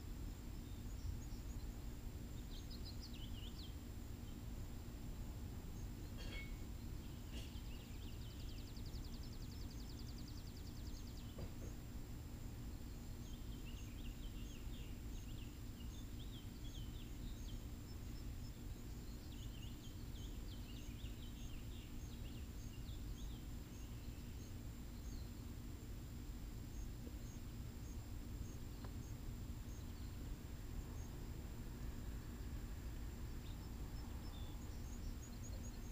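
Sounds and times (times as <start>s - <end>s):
faint hum: 0.0s - 35.9s
low steady rumble: 0.0s - 35.9s
small birds chirping: 0.0s - 35.9s.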